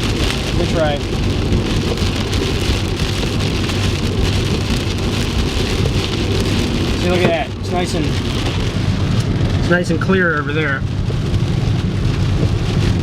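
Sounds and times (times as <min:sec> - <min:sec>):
heavy rain on a car: 0:00.0 - 0:13.0
road and engine hum: 0:00.0 - 0:13.0.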